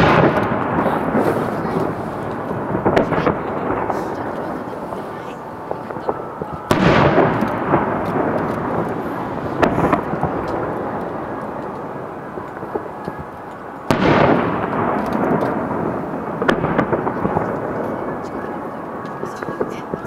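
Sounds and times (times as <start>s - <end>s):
firework crackles: 0.0s - 20.0s
firework shells booming: 0.0s - 20.0s.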